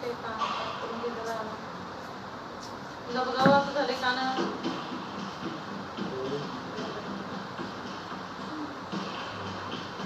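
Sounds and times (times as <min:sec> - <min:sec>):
television music: 0:00.0 - 0:10.0.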